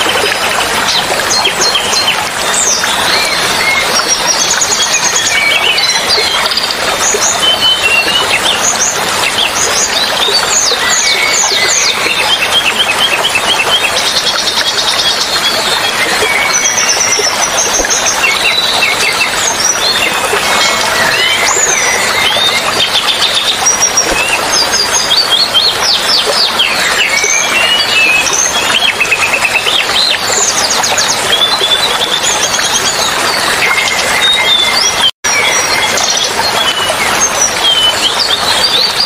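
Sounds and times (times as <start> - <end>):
running water rushing: 0.0 - 39.0.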